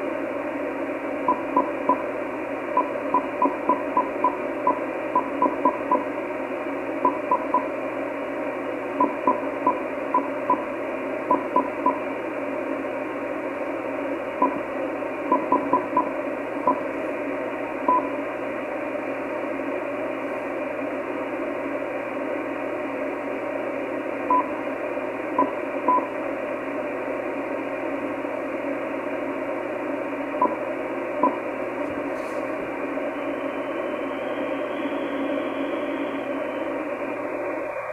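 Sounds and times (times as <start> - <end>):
radio receiver hiss: 0.0 - 37.9.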